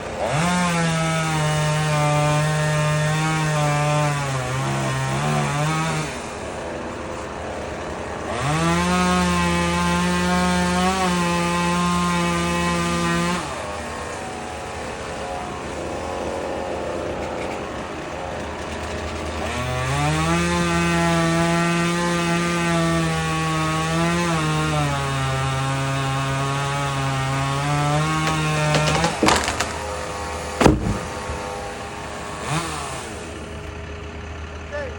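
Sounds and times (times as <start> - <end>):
chainsaw revving and idling: 0.0 - 34.9.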